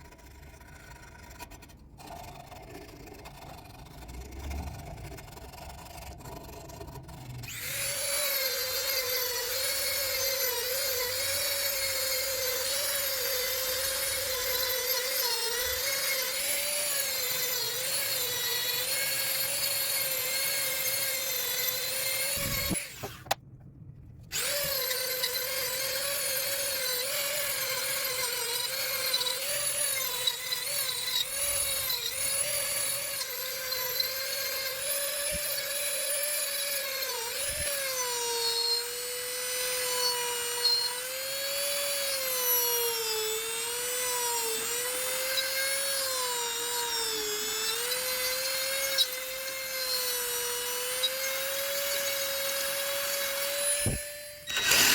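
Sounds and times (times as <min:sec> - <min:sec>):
wood lathe whine: 0:05.2 - 0:23.4, 0:24.3 - 0:54.9.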